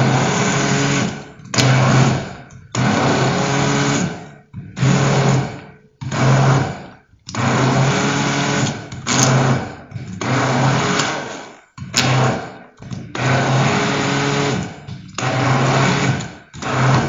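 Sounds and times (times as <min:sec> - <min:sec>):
immersion blender whirring: 0:00.0 - 0:17.0.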